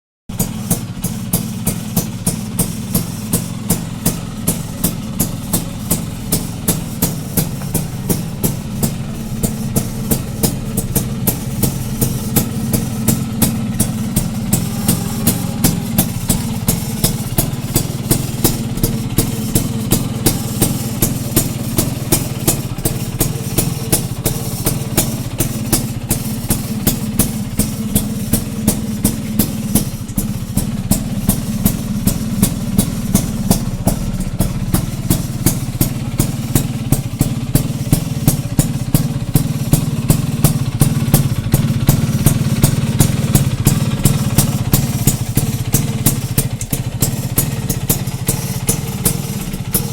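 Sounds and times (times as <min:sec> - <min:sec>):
background music with drum beat: 0:00.3 - 0:49.9
scooter engine idling: 0:00.3 - 0:49.9.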